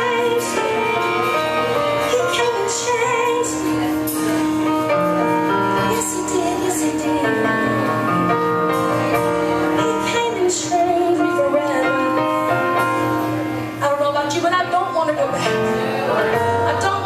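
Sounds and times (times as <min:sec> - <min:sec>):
guitar chords: 0:00.0 - 0:13.8
drums: 0:00.0 - 0:17.0
keyboard chords: 0:00.0 - 0:17.0.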